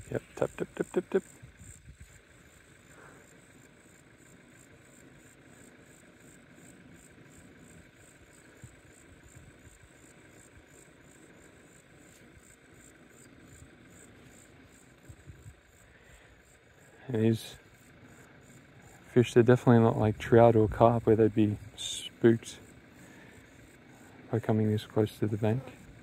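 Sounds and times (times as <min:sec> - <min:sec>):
insect chirping: 0:00.0 - 0:26.0.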